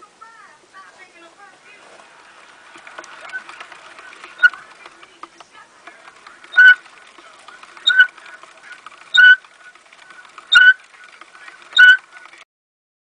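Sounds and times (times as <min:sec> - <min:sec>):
faint rolling background: 0:00.0 - 0:12.5
hamster wheel squeaking: 0:01.7 - 0:12.4.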